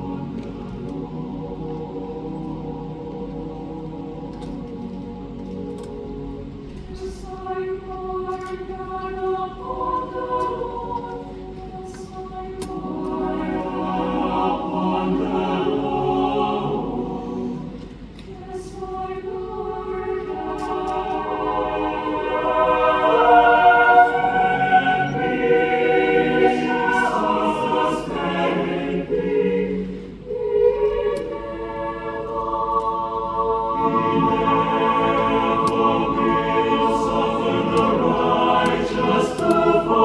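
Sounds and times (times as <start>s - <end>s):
choir singing in harmony: 0.0s - 40.0s.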